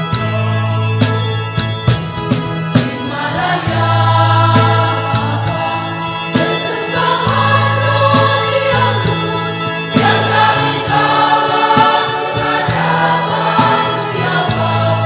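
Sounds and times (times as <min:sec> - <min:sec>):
low bass notes: 0:00.0 - 0:15.0
sharp percussive hits: 0:01.0 - 0:14.7
choir singing in parts: 0:02.7 - 0:15.0.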